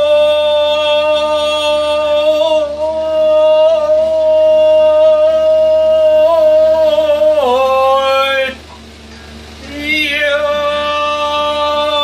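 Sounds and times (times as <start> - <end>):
man singing a work chant: 0.0 - 8.7, 9.6 - 12.0.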